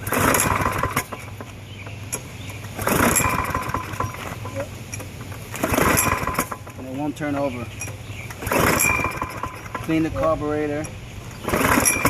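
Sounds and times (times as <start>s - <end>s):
lawn mower engine cranking: 0.0s - 12.0s.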